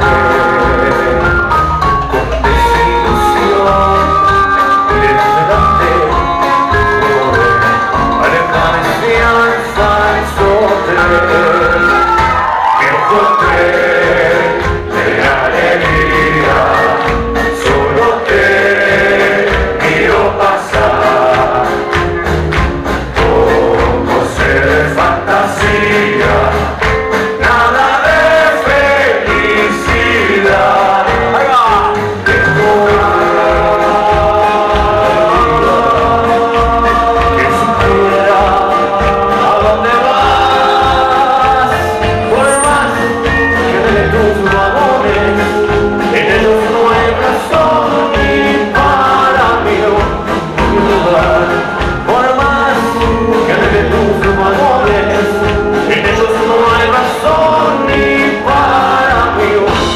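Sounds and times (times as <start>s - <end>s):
acoustic guitar: 0.0s - 59.9s
live band playing: 0.0s - 59.9s
upright double bass: 0.0s - 59.9s.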